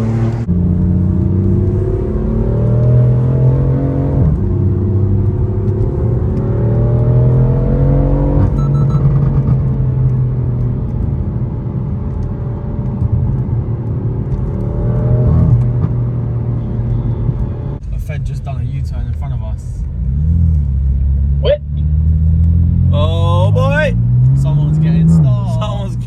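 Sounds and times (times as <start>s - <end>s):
car engine accelerating through gears: 0.0s - 18.0s, 19.8s - 26.0s.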